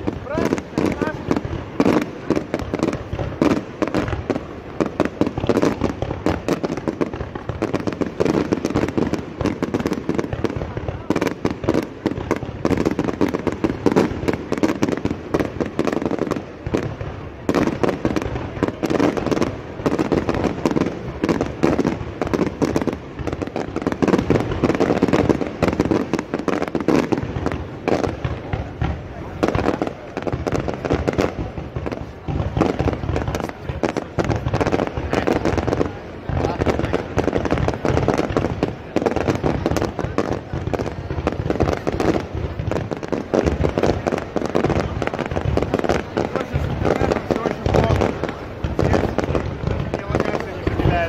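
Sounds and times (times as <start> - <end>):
fireworks crackling and popping: 0.0 - 51.0.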